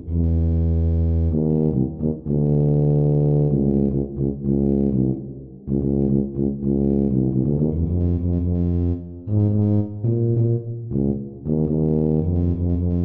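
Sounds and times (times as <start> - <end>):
tuba playing swung melody: 0.0 - 13.0.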